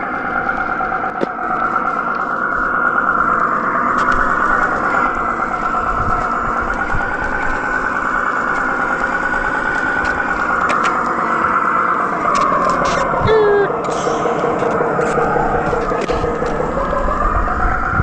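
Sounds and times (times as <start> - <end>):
simulated engine drone: 0.0 - 18.0.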